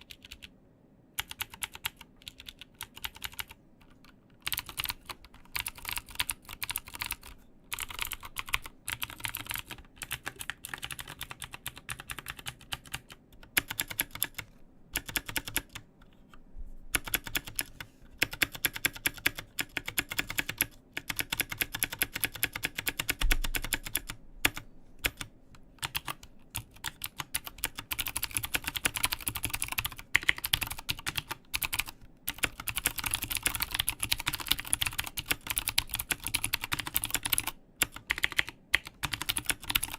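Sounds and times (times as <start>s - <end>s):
clicky mechanical keyboard typing: 0.0s - 0.5s, 1.2s - 39.9s.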